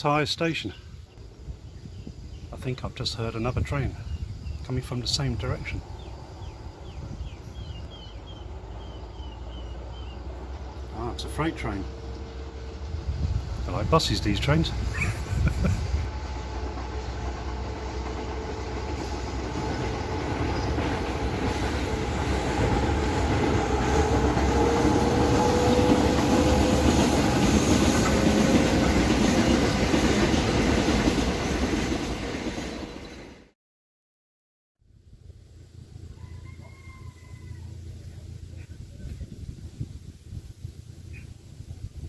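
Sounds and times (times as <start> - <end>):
freight train rumble: 0.0 - 33.6, 34.9 - 42.0.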